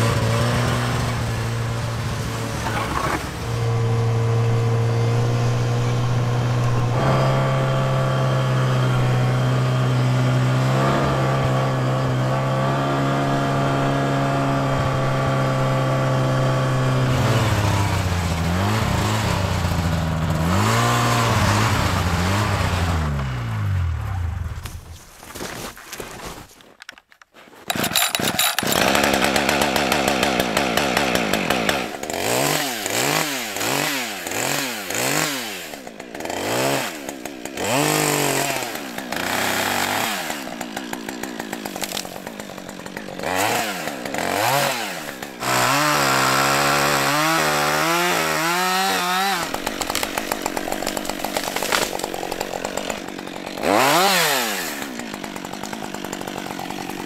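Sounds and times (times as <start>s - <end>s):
chainsaw cutting tree: 0.0s - 24.4s, 27.7s - 57.0s.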